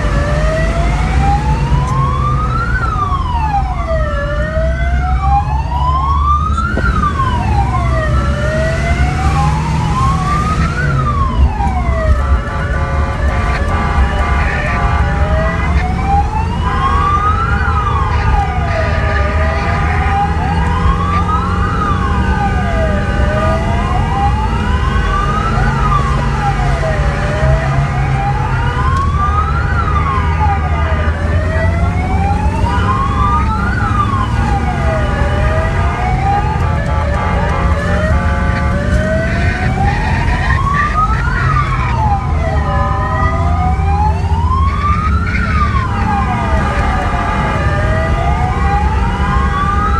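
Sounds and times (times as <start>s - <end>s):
emergency vehicle siren wailing: 0.0s - 49.9s
vehicle engine and road noise: 0.0s - 49.9s.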